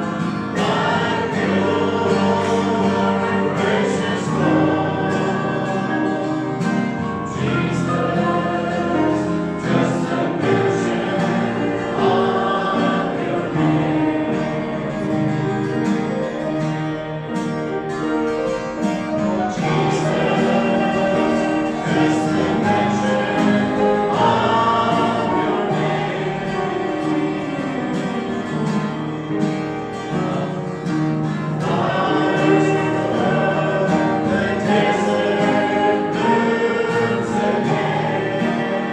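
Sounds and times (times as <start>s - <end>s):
congregation singing a hymn: 0.0s - 38.9s.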